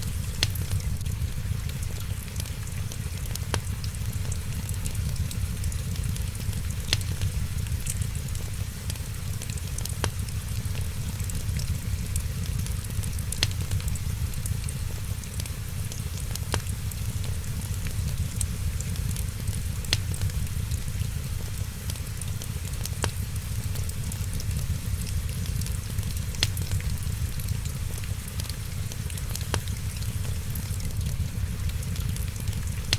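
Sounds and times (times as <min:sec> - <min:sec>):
fire pops: 0:00.0 - 0:32.9
low rumble and hiss: 0:00.0 - 0:32.9
wood fire crackling: 0:00.0 - 0:32.9.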